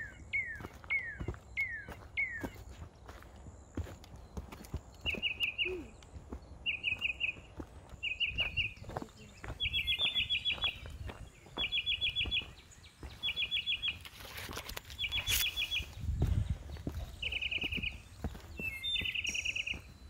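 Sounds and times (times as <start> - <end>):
songbird trilling: 0.0 - 2.7, 5.0 - 14.2, 14.9 - 16.1, 16.7 - 20.0
footsteps on dirt trail: 0.0 - 20.0.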